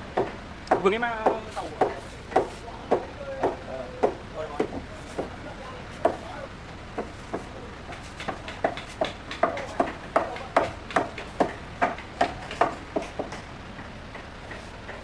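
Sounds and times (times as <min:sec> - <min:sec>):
hammer striking timber: 0:00.1 - 0:05.4, 0:06.0 - 0:06.4, 0:07.0 - 0:15.0.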